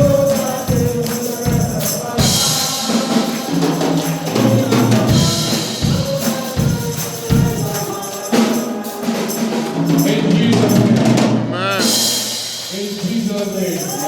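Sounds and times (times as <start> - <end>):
choir singing: 0.0 - 12.8
band playing gospel music: 0.0 - 14.0
tambourine shaking: 0.0 - 14.0.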